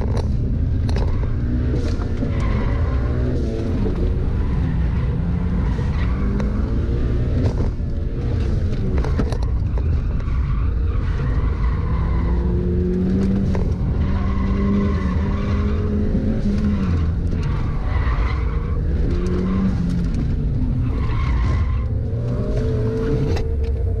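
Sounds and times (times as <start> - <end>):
car engine revving: 0.0 - 24.0
road and wind rumble: 0.0 - 24.0.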